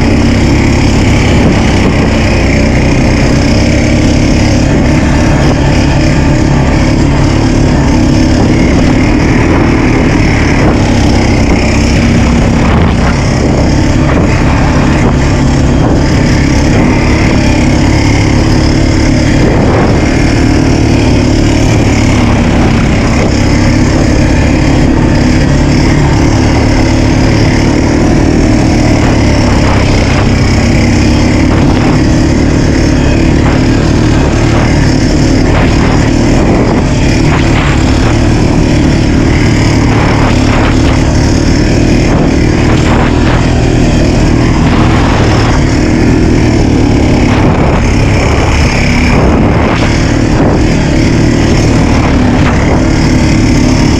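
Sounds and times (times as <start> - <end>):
off-road vehicle engine running: 0.0 - 53.9.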